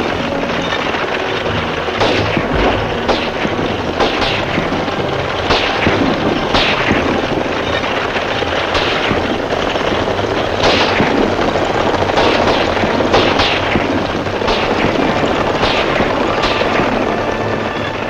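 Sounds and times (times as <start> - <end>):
horses galloping: 0.0 - 18.0.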